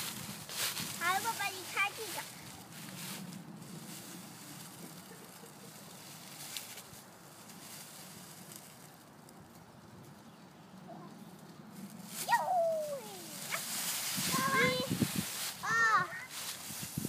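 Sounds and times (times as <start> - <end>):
rustling of dry leaves: 0.0 - 17.0.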